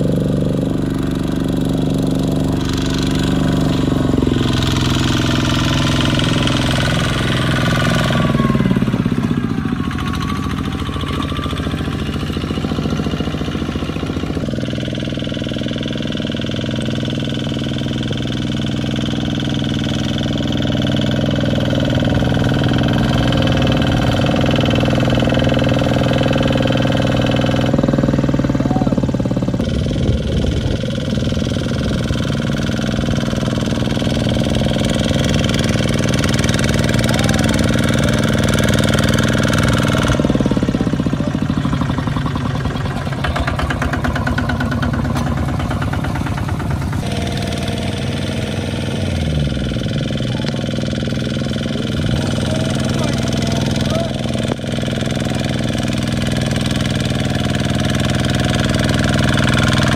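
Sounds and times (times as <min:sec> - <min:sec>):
diesel tractor engines chugging: 0:00.0 - 0:59.9.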